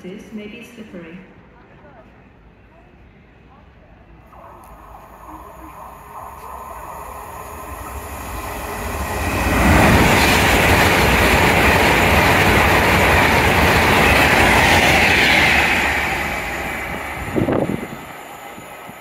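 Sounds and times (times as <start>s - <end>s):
train passing at high speed: 1.3s - 19.0s.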